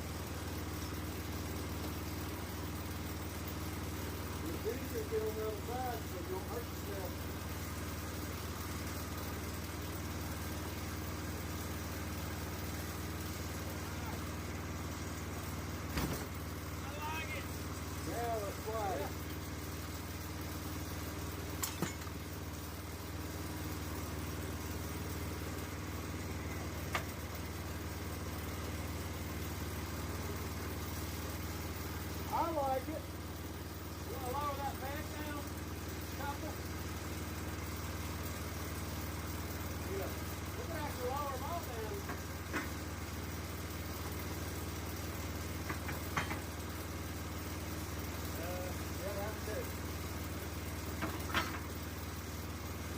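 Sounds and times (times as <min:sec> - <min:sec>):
engine idling: 0:00.0 - 0:52.9.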